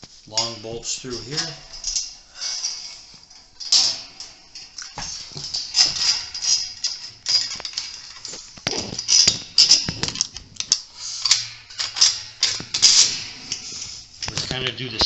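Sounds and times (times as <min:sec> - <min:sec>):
metal hardware clinking: 0:00.0 - 0:15.0.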